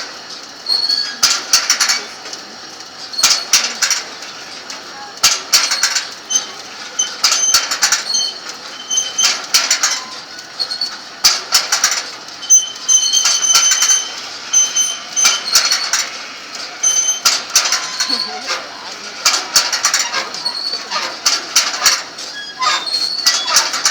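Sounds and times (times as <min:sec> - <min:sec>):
metal parts scraping and squeaking: 0:00.7 - 0:02.1, 0:03.1 - 0:04.0, 0:04.9 - 0:11.0, 0:11.6 - 0:16.1, 0:16.8 - 0:23.9.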